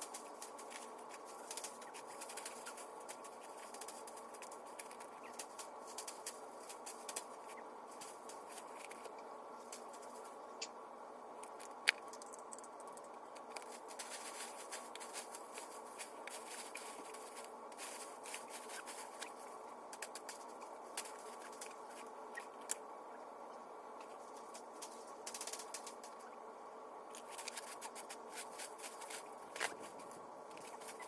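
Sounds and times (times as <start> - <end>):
scratchy rustling of vines: 0.0 - 10.4, 12.0 - 22.8, 24.0 - 26.3, 27.1 - 31.0
steady low hum: 0.0 - 31.0.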